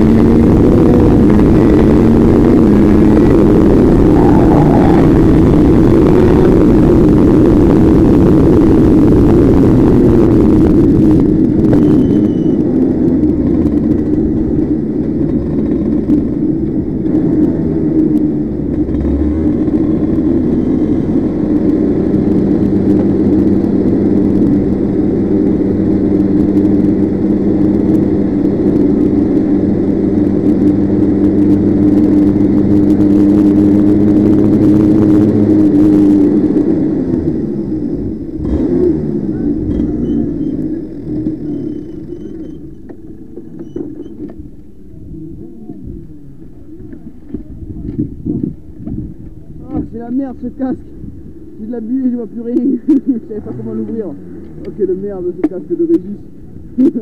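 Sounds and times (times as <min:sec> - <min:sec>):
kart engine at high revs: 0:00.0 - 0:44.4, 0:52.5 - 0:55.5.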